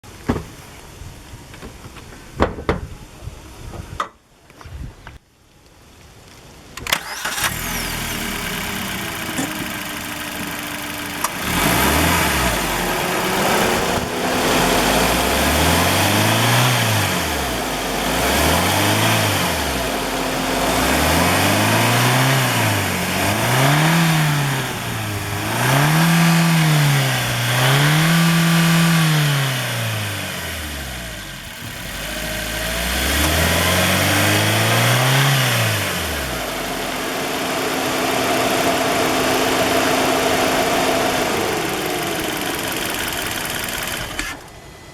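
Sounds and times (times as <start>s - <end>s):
car engine starting and revving: 6.8s - 44.9s.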